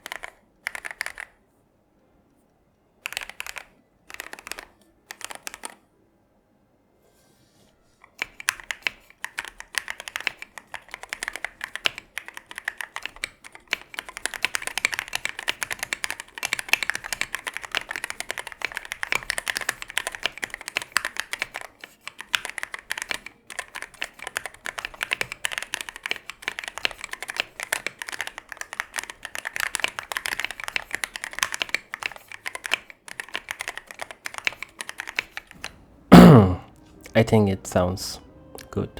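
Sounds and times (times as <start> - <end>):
mechanical keyboard typing clacks: 0.0 - 1.4, 3.0 - 5.8, 8.0 - 36.3.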